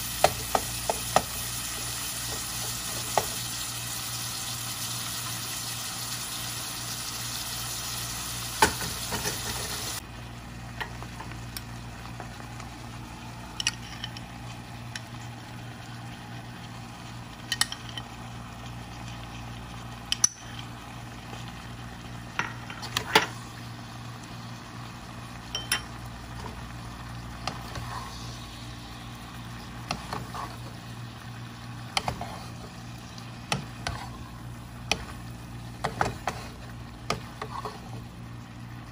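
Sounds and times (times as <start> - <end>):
shrimp sizzling in hot oil: 0.0 - 10.0, 12.8 - 38.9
vegetables stir-frying in sauce: 0.0 - 13.4, 20.7 - 38.9.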